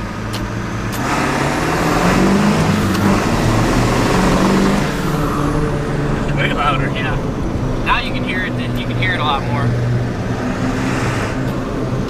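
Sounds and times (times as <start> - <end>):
diesel engine accelerating: 0.0 - 12.0.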